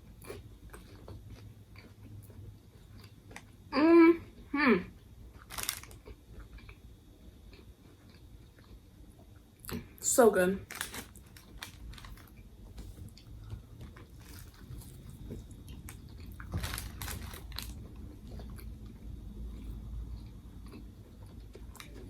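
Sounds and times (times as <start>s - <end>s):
person chewing and crunching sandwich: 0.0s - 10.0s, 10.6s - 22.0s.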